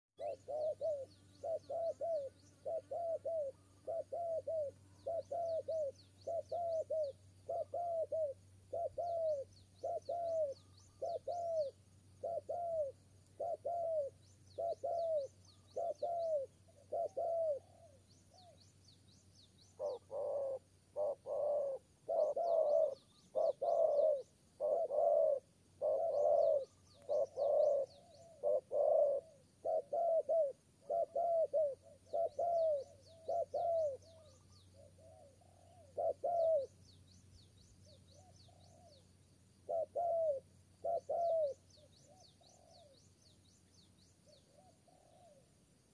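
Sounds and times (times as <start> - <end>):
dove cooing: 0.2 - 18.6, 19.7 - 36.8, 38.1 - 43.0, 44.3 - 45.6.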